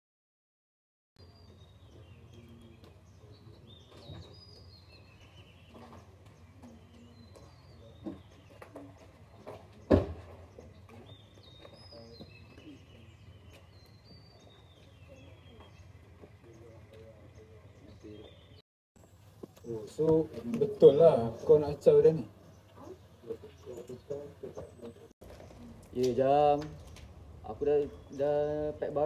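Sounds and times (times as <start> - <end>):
low outdoor hum: 1.2 - 29.0
small birds chirping: 1.2 - 29.0.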